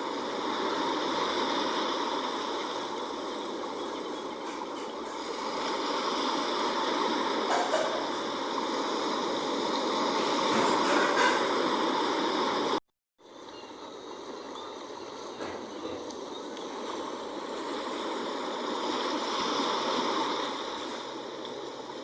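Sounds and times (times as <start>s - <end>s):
sea water rushing: 0.0s - 22.0s.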